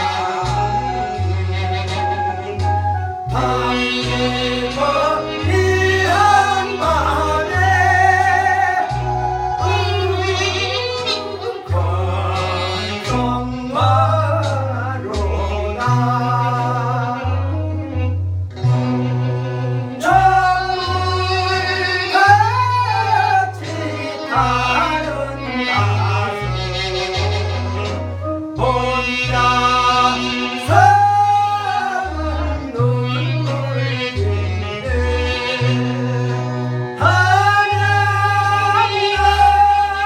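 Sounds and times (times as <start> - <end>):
person singing with vibrato: 0.0 - 17.9, 19.8 - 40.0
bass line: 0.0 - 40.0.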